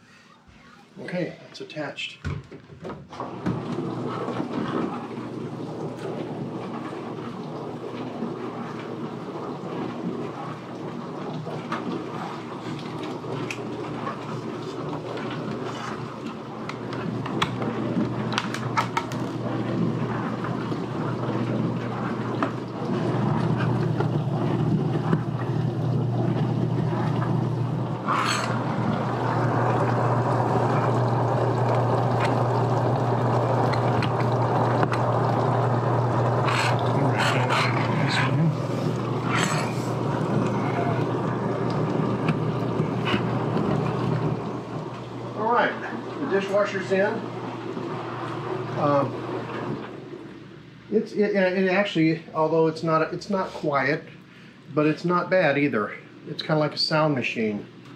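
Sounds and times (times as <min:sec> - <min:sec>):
dishwasher pump hum: 0:00.0 - 0:57.9
water spraying inside dishwasher: 0:03.2 - 0:54.0.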